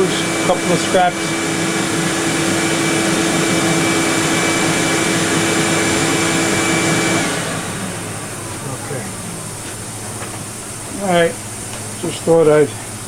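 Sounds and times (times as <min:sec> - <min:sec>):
table saw motor whine: 0:00.0 - 0:13.0.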